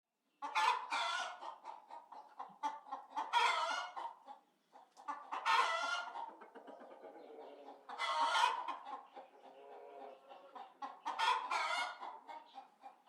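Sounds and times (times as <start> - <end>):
chickens clucking: 0.3 - 13.0
chicken long drawn-out calls: 0.4 - 4.4, 5.1 - 13.0.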